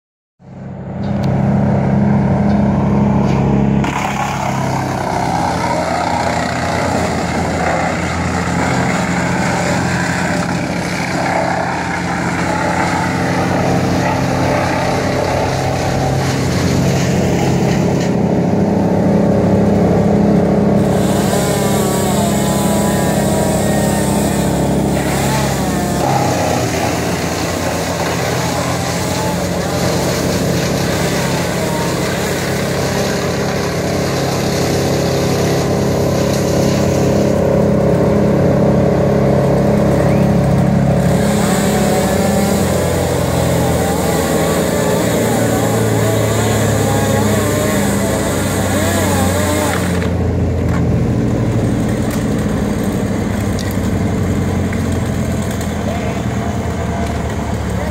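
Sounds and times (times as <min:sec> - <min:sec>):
heavy machinery engine running: 0:00.4 - 0:57.9
higher engine note: 0:00.4 - 0:57.9.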